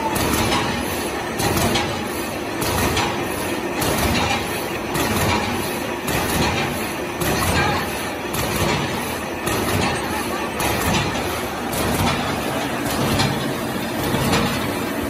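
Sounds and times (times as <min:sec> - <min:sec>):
machine mechanical clatter: 0:00.0 - 0:15.0.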